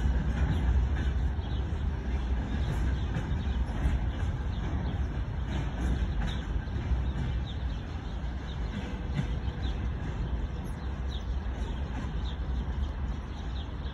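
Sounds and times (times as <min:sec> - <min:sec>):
freight train wagons rumbling: 0:00.0 - 0:13.9.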